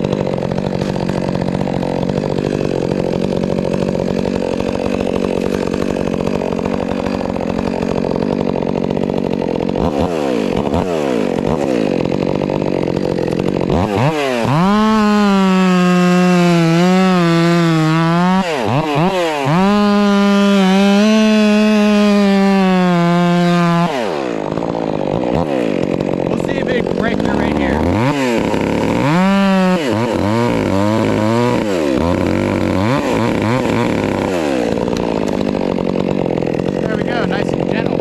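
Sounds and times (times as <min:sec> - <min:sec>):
chainsaw cutting through wood: 0:00.0 - 0:38.0
chainsaw high revving whine: 0:00.0 - 0:38.0.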